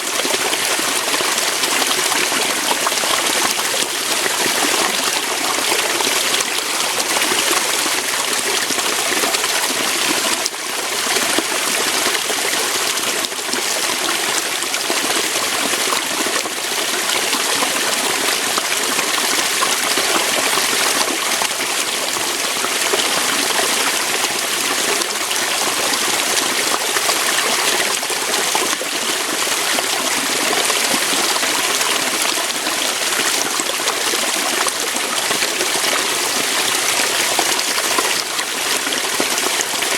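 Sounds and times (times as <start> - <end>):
water pouring over rocks: 0.0 - 39.9.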